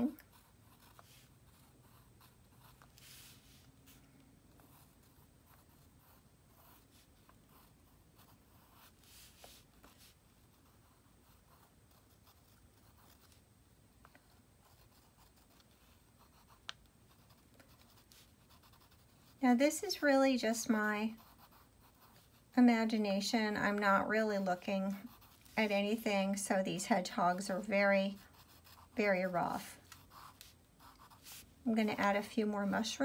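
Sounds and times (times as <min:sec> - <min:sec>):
pencil scratching on paper: 0:00.0 - 0:13.4, 0:14.0 - 0:33.0.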